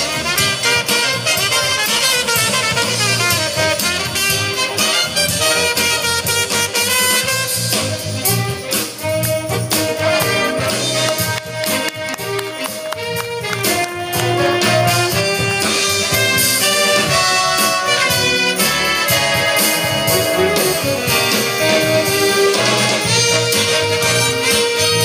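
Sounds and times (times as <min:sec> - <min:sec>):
jazz big band playing: 0:00.0 - 0:25.0.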